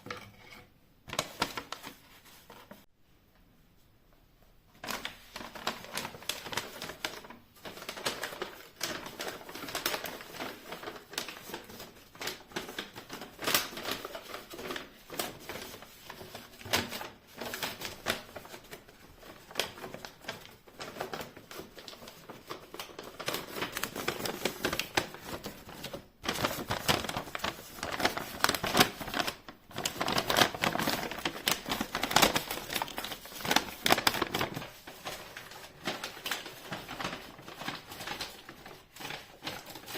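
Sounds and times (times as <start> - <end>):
rustling: 4.8 - 39.9.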